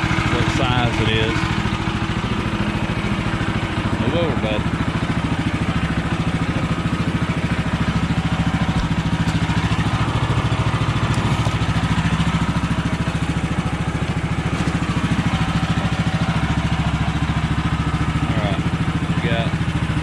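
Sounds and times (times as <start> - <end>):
sawmill gas engine idling: 0.0 - 20.0.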